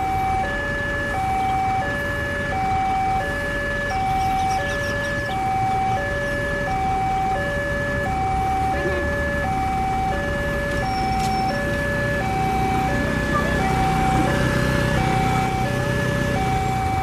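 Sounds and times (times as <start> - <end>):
level crossing alarm two tones: 0.0 - 17.0.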